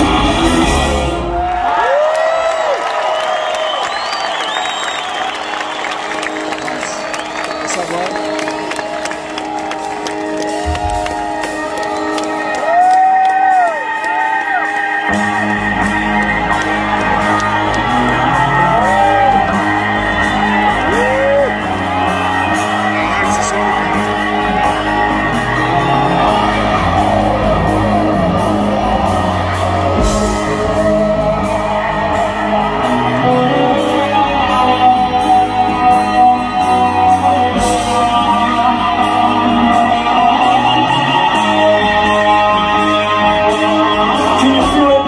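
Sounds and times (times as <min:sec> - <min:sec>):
rock band playing live: 0:00.0 - 0:01.9, 0:05.0 - 0:45.0
crowd whistling and shouting: 0:00.0 - 0:45.0.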